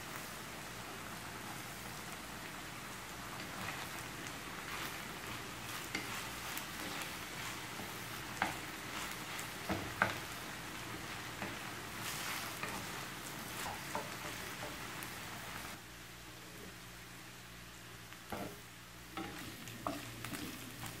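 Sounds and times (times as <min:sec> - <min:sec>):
meat and onions sizzling in a pan: 0:00.0 - 0:21.0
wooden spoon stirring and scraping: 0:00.6 - 0:15.8, 0:18.3 - 0:21.0.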